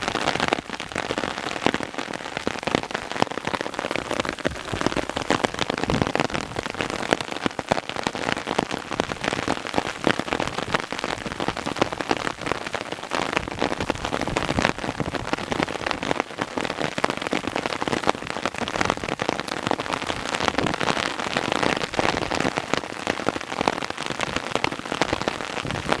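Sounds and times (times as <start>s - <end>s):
hailstones pelting ground: 0.0s - 26.0s.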